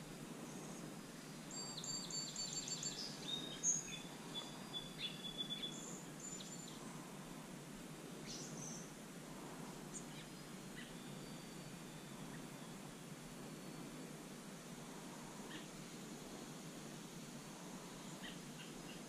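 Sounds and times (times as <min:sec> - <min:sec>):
outdoor background noise: 0:00.0 - 0:19.0
songbirds chirping: 0:00.0 - 0:19.0.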